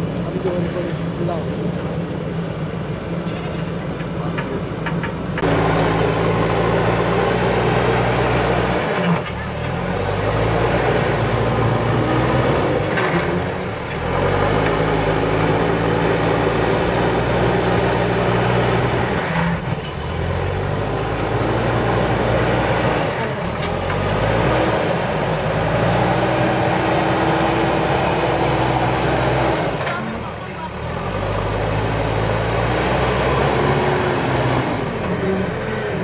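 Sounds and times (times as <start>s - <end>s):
backhoe diesel engine under load: 0.0s - 36.0s.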